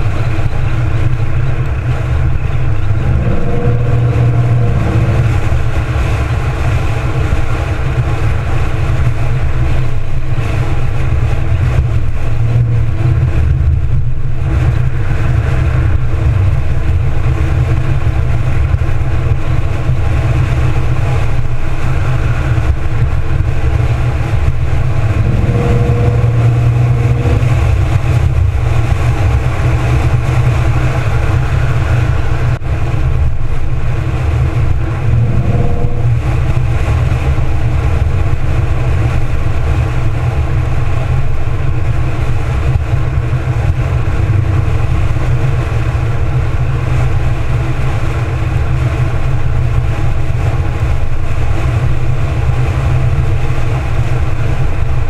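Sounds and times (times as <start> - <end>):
car engine running: 0.0 - 55.0
wind rumble on microphone: 0.0 - 55.0.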